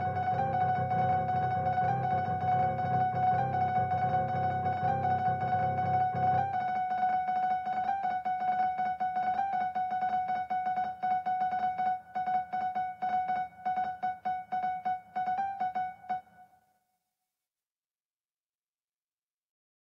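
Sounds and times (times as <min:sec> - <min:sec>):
computer-played piano notes: 0:00.0 - 0:16.6.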